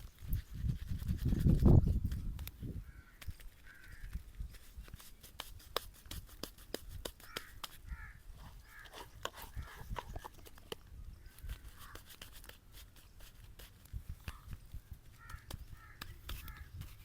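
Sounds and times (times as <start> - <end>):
razor scraping stubble: 0.0 - 17.0.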